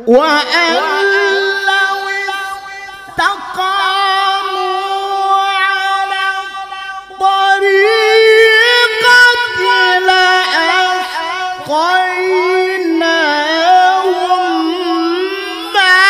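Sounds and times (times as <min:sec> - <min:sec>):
person reciting melodically: 0:00.0 - 0:16.0.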